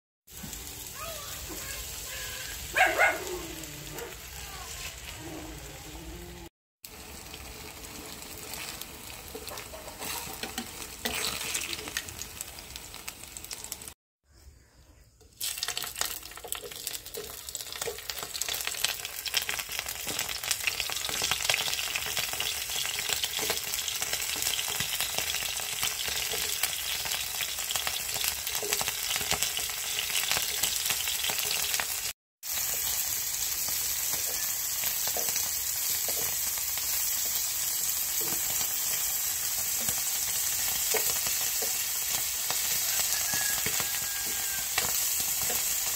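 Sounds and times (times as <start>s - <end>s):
oil sizzling in a frying pan: 0.3s - 5.9s, 6.8s - 14.0s, 15.3s - 45.9s.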